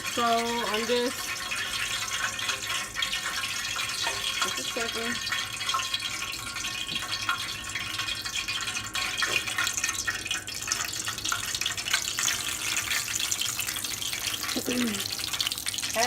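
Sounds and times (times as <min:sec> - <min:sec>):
grease sizzling in a pan: 0:00.0 - 0:16.0.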